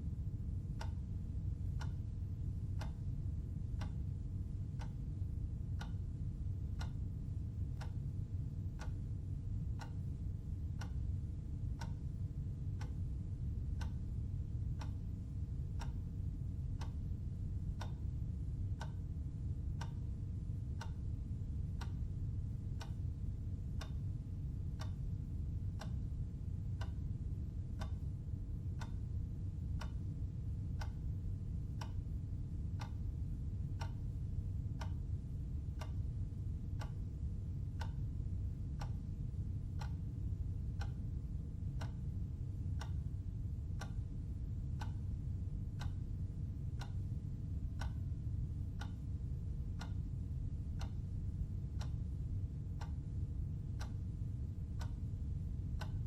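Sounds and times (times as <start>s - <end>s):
low steady hum: 0.0s - 56.0s
clock ticking: 0.7s - 2.0s, 2.7s - 5.1s, 5.8s - 6.0s, 6.7s - 19.1s, 19.8s - 20.1s, 20.8s - 21.0s, 21.6s - 27.2s, 27.8s - 28.1s, 28.7s - 32.1s, 32.7s - 36.1s, 36.8s - 42.2s, 42.8s - 50.1s, 50.8s - 52.2s, 52.8s - 54.1s, 54.8s - 56.0s.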